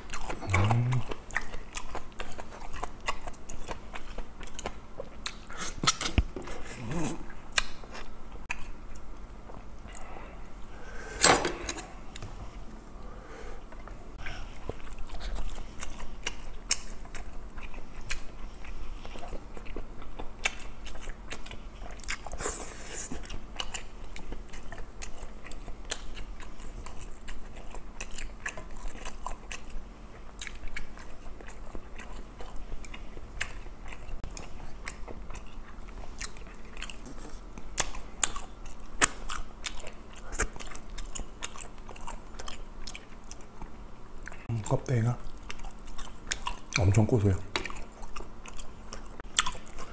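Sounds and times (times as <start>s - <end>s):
person chewing and crunching: 0.0s - 10.8s, 13.6s - 49.9s.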